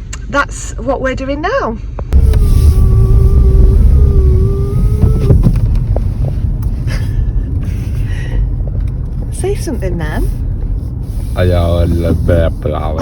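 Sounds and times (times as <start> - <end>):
car engine rumble inside cabin: 2.1 - 13.0.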